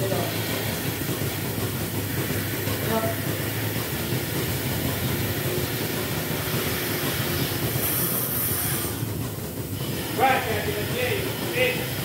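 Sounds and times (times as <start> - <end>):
milking machinery hum: 0.0 - 12.0.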